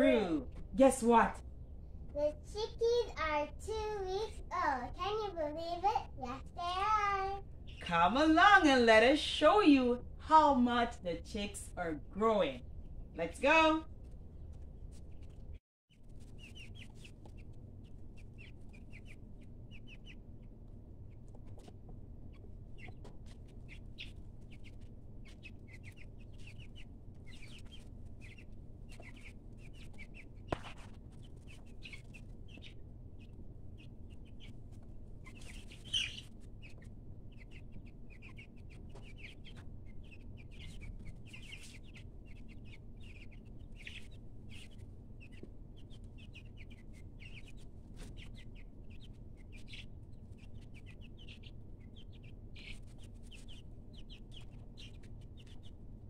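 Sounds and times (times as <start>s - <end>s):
chicks peeping: 2.1s - 56.0s.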